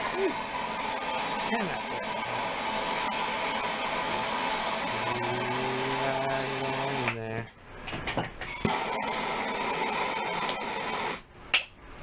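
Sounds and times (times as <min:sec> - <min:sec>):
gas torch hissing: 0:00.0 - 0:07.2, 0:08.5 - 0:11.2.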